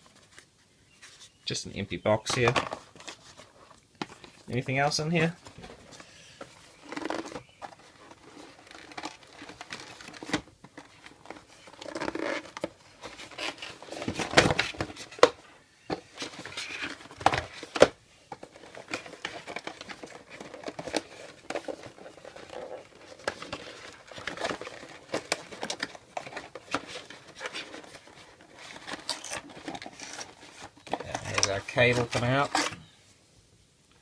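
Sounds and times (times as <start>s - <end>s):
cardboard packaging crinkling: 2.2s - 32.8s.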